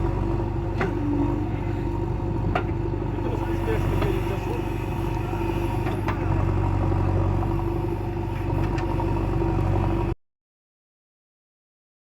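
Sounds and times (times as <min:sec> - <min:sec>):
diesel engine running: 0:00.0 - 0:10.2.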